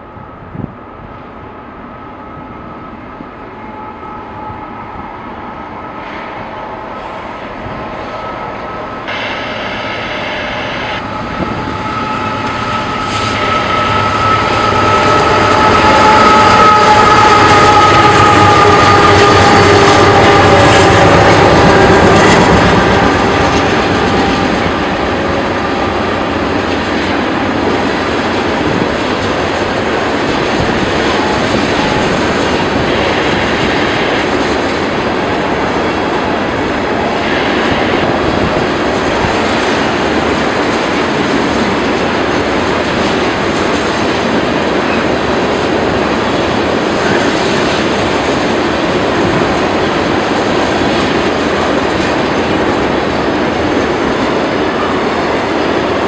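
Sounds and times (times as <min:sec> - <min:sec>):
diesel locomotive engine whine: 0:00.0 - 0:56.0.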